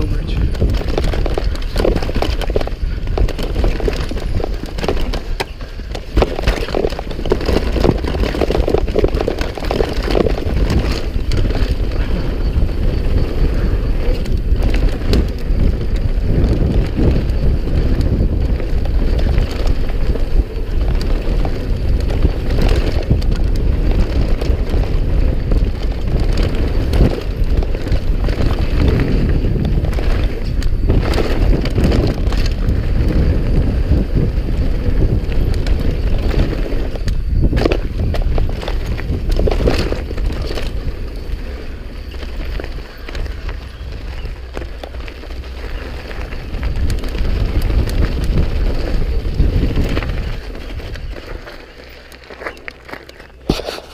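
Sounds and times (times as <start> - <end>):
bike rattling and knocking: 0.0 - 53.9
bike tyres crunching over stones: 0.0 - 53.9
wind rumble on microphone: 0.0 - 53.9.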